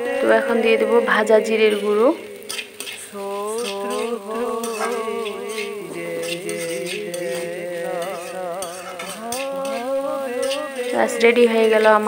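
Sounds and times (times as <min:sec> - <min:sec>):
person singing long wavering notes: 0:00.0 - 0:02.5, 0:03.1 - 0:11.5
metal spoon stirring in pan: 0:00.0 - 0:12.0.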